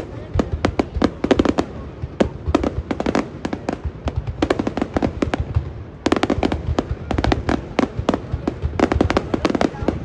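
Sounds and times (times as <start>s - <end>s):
fireworks cracking and banging: 0.0s - 10.0s.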